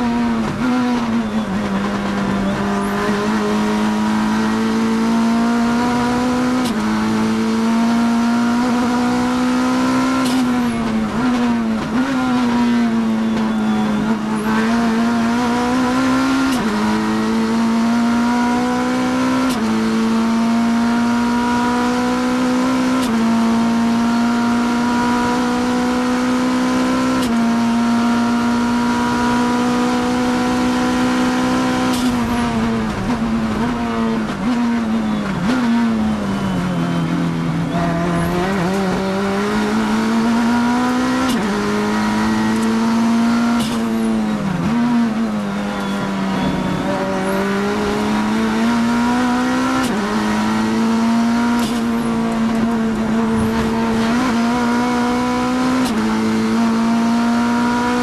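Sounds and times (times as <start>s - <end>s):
race car engine revving through gears: 0.0s - 58.0s.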